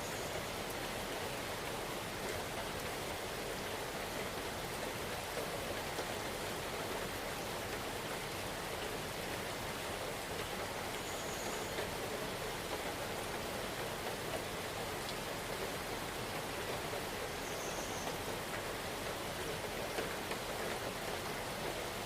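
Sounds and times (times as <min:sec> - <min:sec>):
rain pattering on leaves: 0:00.0 - 0:22.0.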